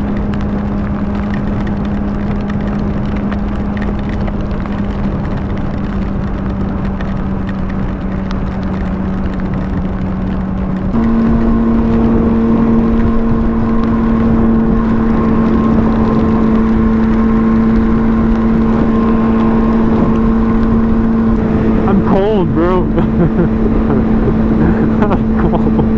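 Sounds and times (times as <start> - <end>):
motorcycle engine cruising: 0.0 - 25.9
wind noise: 0.0 - 25.9.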